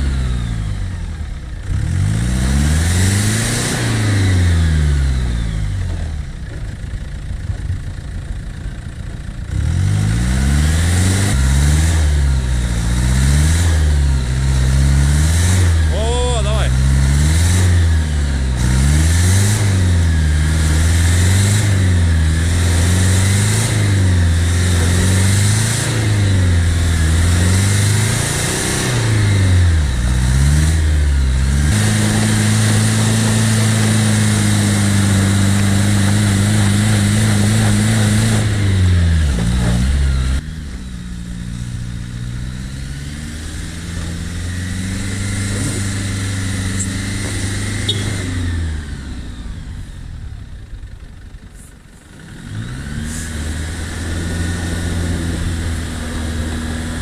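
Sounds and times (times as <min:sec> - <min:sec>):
engine revving: 0:00.0 - 0:06.6, 0:09.4 - 0:57.0.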